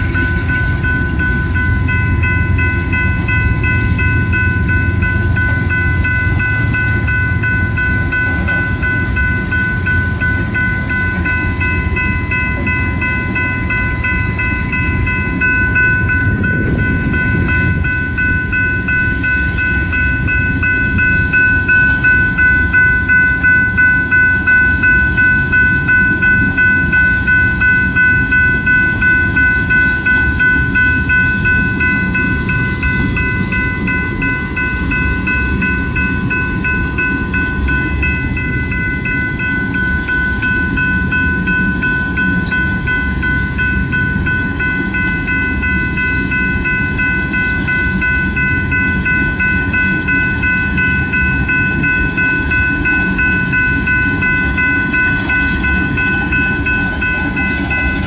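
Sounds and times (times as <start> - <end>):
crossing warning bell ringing: 0.0 - 58.0
freight train wheels rumbling on rail: 0.0 - 58.0.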